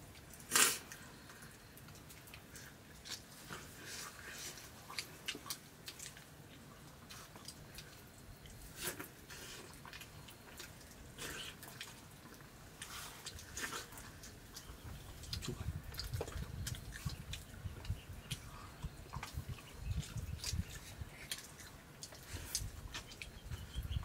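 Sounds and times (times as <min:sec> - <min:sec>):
people chewing: 0:00.1 - 0:24.0.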